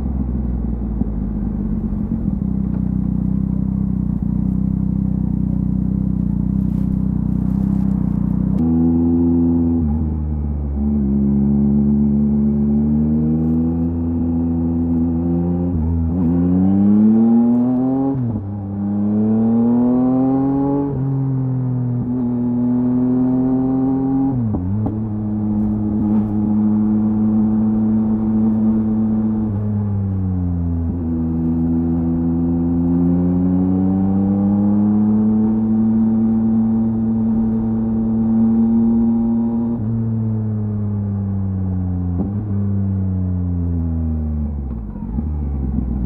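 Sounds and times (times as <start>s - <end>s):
motorcycle engine revving: 0.8s - 46.0s.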